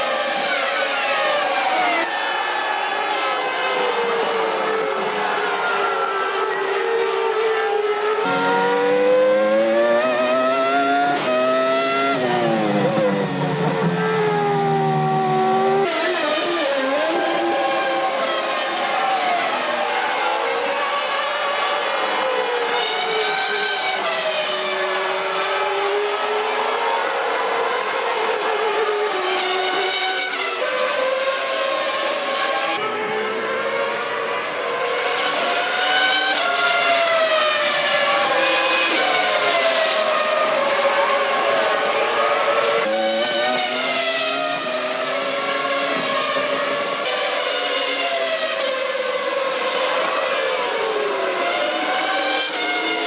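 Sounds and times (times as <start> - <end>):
high-revving racing car engine: 3.4 - 53.0.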